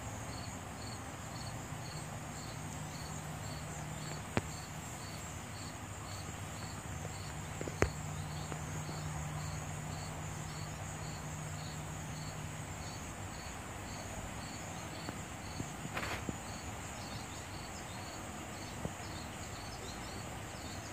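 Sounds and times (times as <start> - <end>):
crickets chirping: 0.0 - 20.9
high-pitched insect hum: 0.0 - 20.9.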